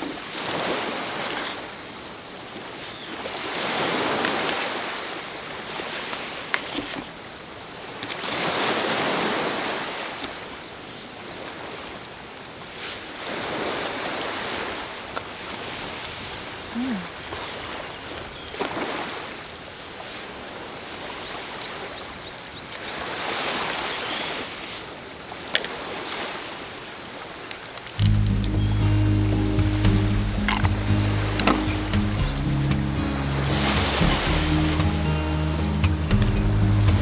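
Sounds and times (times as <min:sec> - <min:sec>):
sea waves breaking on shore: 0:00.0 - 0:37.0
wind: 0:00.0 - 0:37.0.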